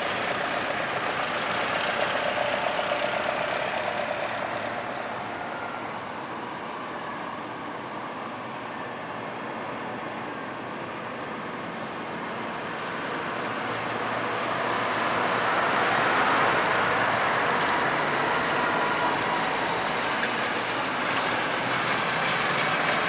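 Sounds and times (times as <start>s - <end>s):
farm machine engine running: 0.0s - 8.5s, 11.4s - 23.0s.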